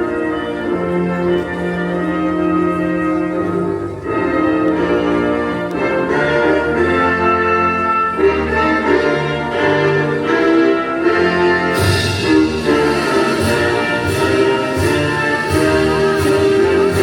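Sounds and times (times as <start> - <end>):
orchestral brass and strings: 0.0 - 17.0.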